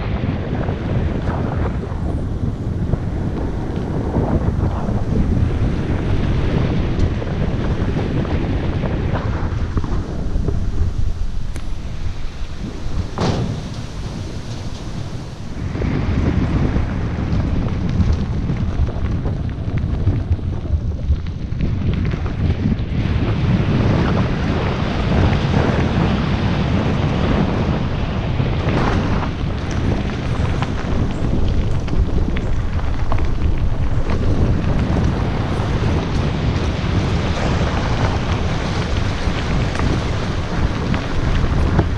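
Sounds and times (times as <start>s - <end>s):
bike ticks and rattles: 0.0s - 41.9s
wind buffeting microphone: 0.0s - 41.9s
tyres crunching on gravel: 1.0s - 24.0s, 28.4s - 41.9s.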